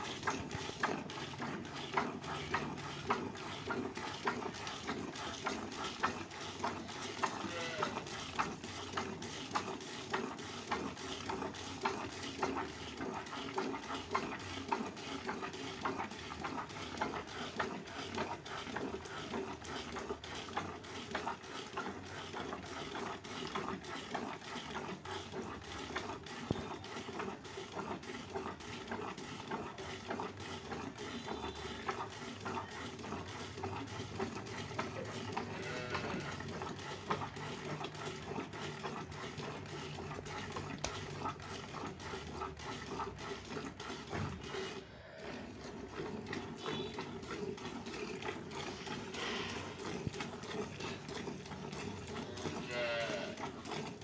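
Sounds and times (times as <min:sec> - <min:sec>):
milk squirting into plastic bucket: 0:00.0 - 0:54.0.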